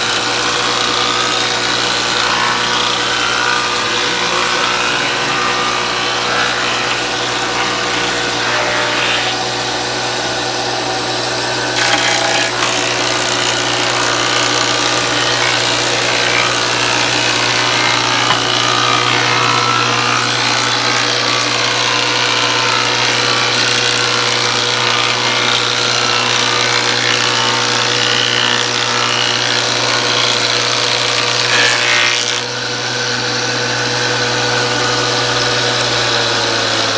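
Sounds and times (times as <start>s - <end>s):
woodworking power tool running: 0.0s - 36.9s.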